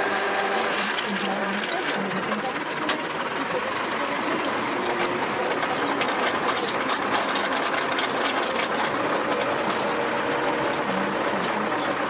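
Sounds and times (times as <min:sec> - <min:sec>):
mechanical clatter: 0:00.0 - 0:12.0
tractor engine running: 0:00.0 - 0:12.0.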